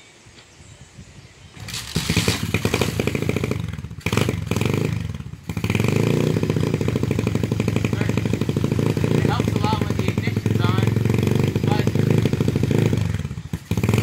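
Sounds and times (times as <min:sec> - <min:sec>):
dirt bike engine kick-started: 0:01.5 - 0:14.0.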